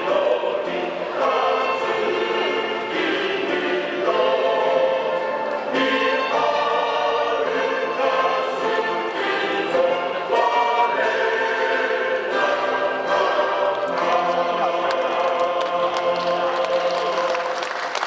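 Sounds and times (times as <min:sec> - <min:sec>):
choir singing a slow song: 0:00.0 - 0:18.0
instrumental accompaniment: 0:00.0 - 0:18.0.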